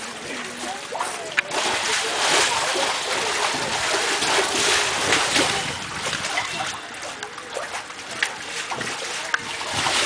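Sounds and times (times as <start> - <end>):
water splashing and churning: 0.0 - 10.0.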